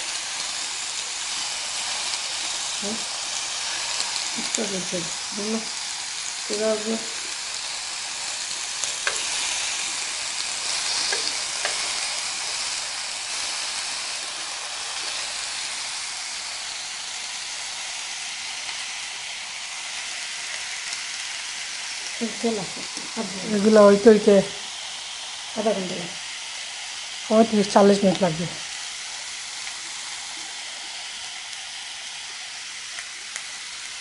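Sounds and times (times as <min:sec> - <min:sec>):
meat sizzling on grill: 0:00.0 - 0:34.0.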